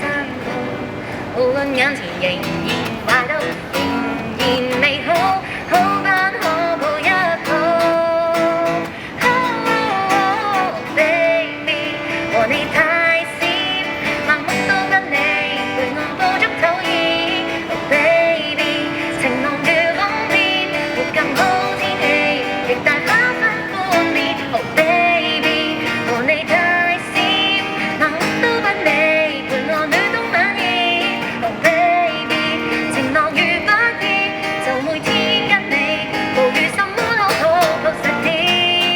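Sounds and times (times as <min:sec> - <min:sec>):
strummed acoustic guitar: 0:00.0 - 0:38.9
woman singing pop song: 0:00.0 - 0:38.9.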